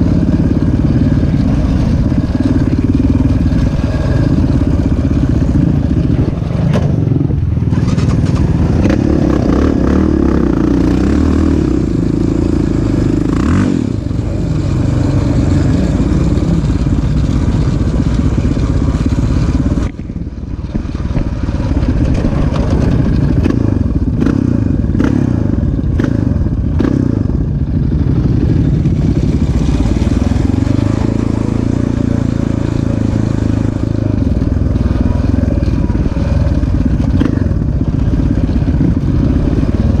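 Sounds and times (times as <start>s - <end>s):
motorbike engine revving: 0.0s - 40.0s.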